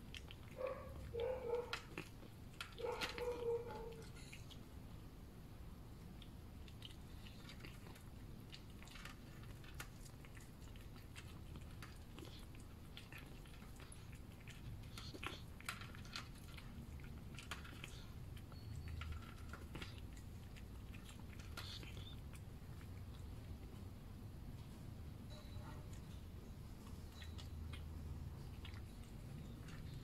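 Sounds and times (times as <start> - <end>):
cat chewing and lapping: 0.0 - 30.0
low steady hum: 0.0 - 30.0.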